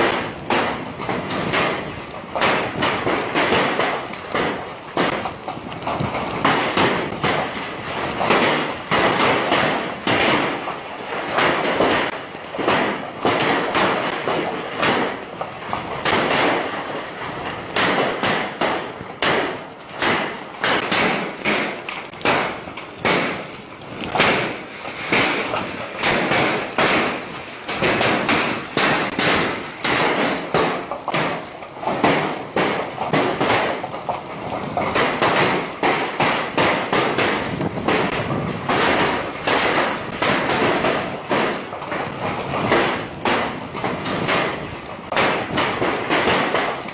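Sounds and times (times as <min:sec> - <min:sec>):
hail clattering on hard surfaces: 0:00.0 - 0:46.9.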